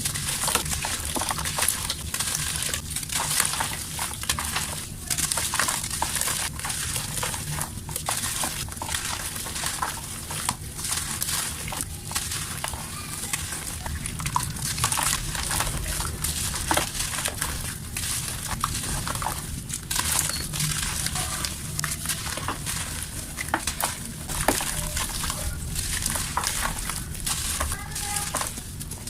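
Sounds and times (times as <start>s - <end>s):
dry mud crumbling and snapping: 0.0s - 29.0s.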